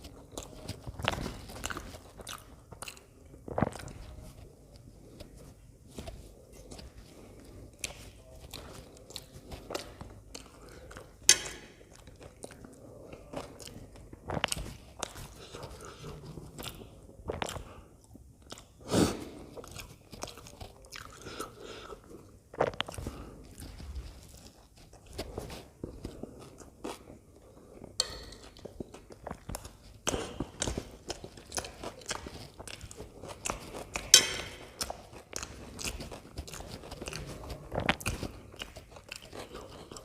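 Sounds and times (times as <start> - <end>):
person chewing: 0.0 - 40.0.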